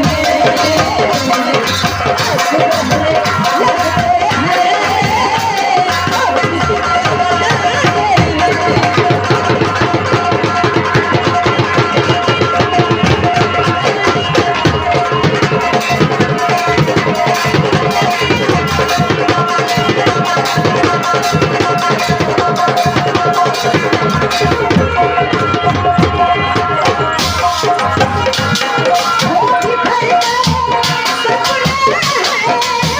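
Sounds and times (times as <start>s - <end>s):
fast hand-drum beats: 0.0s - 32.9s.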